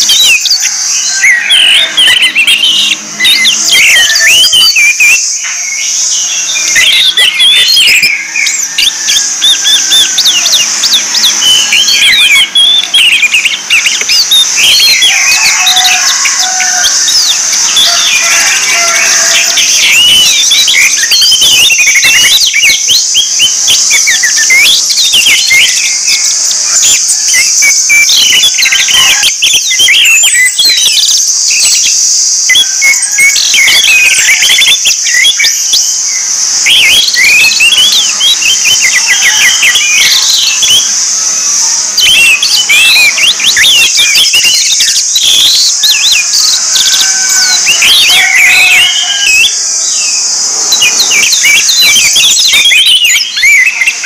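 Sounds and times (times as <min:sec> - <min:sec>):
thrushes singing: 0:00.0 - 0:54.0.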